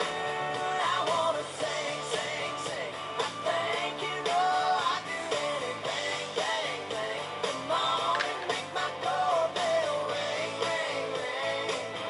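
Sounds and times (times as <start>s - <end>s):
country song with singer and band: 0.0s - 12.0s.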